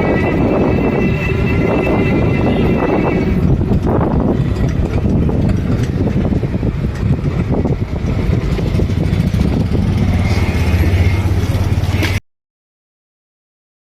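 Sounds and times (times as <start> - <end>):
motor engine humming: 0.0 - 12.2.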